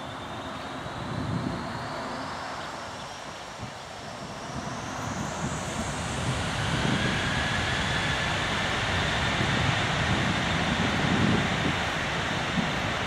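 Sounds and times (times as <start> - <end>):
jet engines with turbine whine: 0.0 - 13.0.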